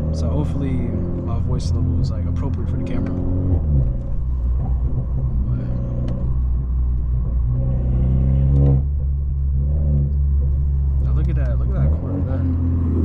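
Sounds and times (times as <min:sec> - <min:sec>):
car exhaust droning: 0:00.0 - 0:13.0.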